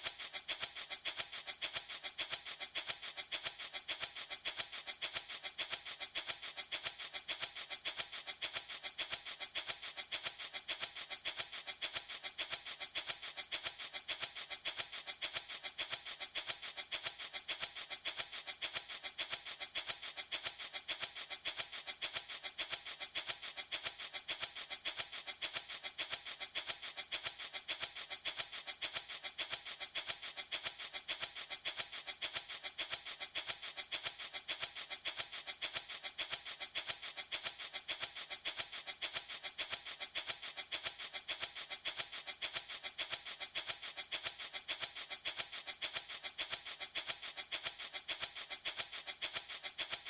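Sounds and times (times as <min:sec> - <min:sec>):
baby rattle shaking: 0:00.0 - 0:50.0.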